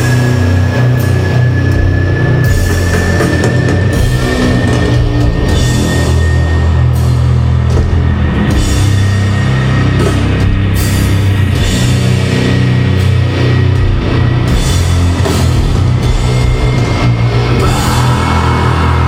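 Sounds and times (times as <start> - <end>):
distorted guitar and bass chords: 0.0 - 19.0
drums: 0.0 - 19.0.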